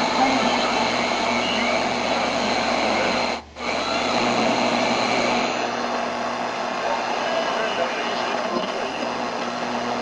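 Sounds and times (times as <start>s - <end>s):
radio static hissing: 0.0s - 10.0s.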